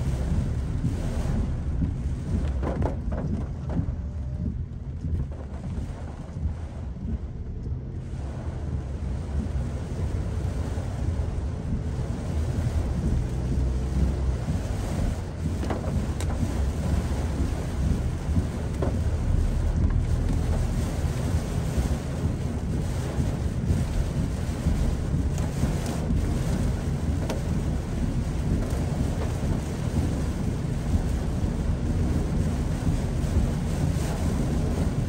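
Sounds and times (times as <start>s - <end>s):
heavy rain on car body: 0.0s - 35.0s
steady low rumble: 0.0s - 35.0s
tyres on flooded road: 0.0s - 35.0s.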